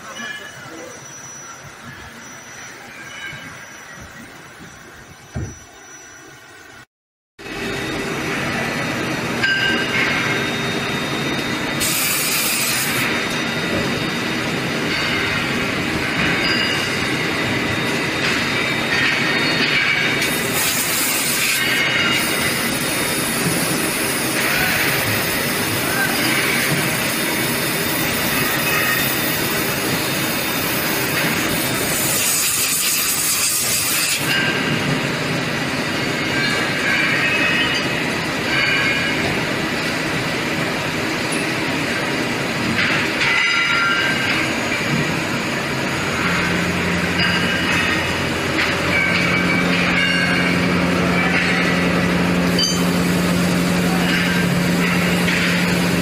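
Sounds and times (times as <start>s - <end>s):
cnc machinery running: 7.4s - 56.0s.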